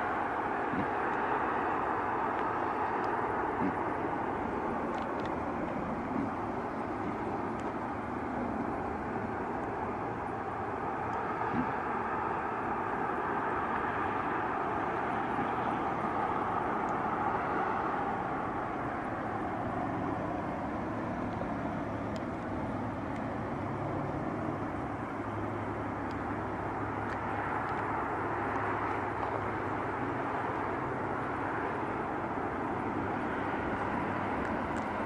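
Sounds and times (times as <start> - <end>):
low engine hum: 0.0 - 35.0
road traffic rumble: 0.0 - 35.0.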